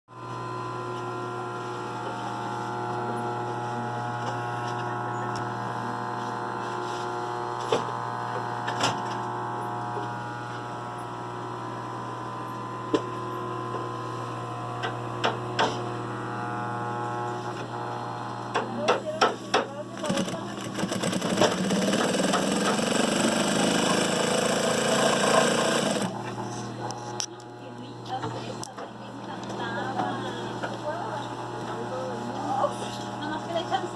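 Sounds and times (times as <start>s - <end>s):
electric hum: 0.2s - 33.9s.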